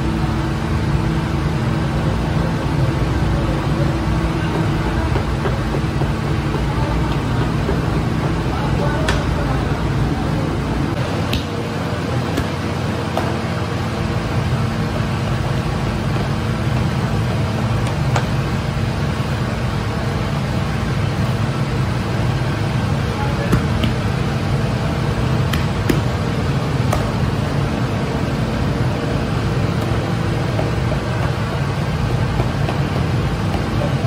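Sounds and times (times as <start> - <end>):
machine hum and rumble: 0.0 - 34.0.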